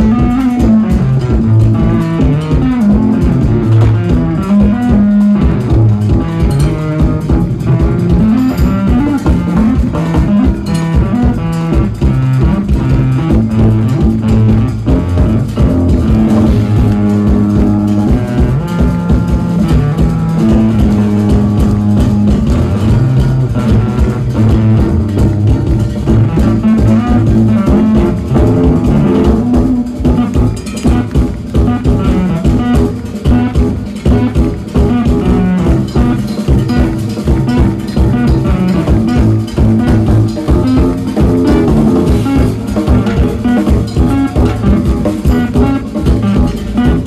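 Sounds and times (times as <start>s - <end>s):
busy drum groove: 0.0s - 47.0s
electric bass line: 0.0s - 47.0s
electric guitar: 0.0s - 47.0s
keyboards: 0.0s - 47.0s.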